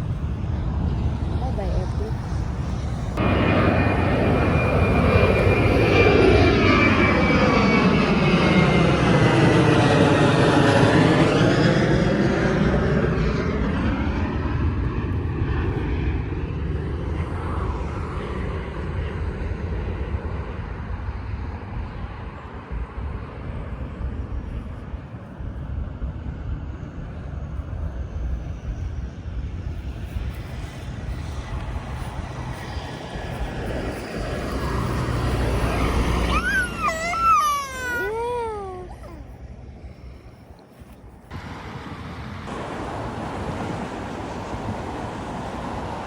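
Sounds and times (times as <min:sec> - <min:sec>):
jet airliner passing overhead: 0:00.0 - 0:46.0.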